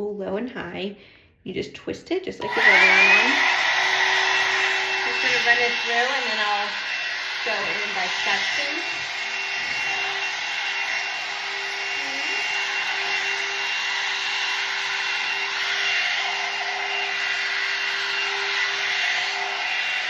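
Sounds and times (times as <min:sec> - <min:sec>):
hot air brush blowing and humming: 0:02.4 - 0:20.0.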